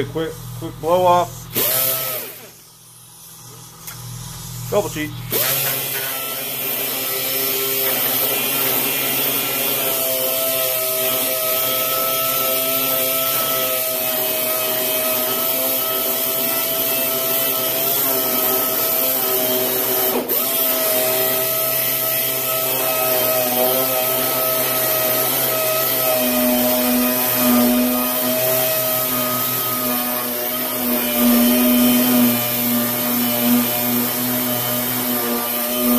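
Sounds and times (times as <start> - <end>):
orbital sander whine: 0.0 - 35.9.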